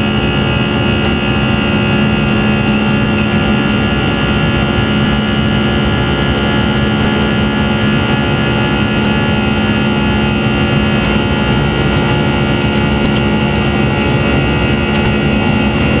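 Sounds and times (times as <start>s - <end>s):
jet engines droning in cabin: 0.0s - 16.0s.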